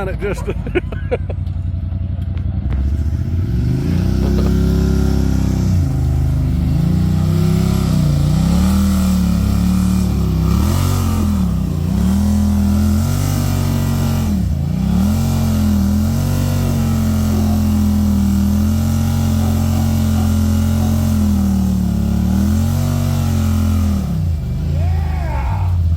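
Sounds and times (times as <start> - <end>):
utility vehicle engine under load: 0.0 - 25.9.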